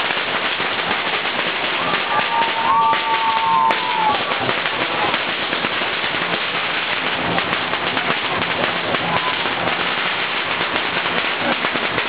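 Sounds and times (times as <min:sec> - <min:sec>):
firecrackers crackling: 0:00.0 - 0:12.0.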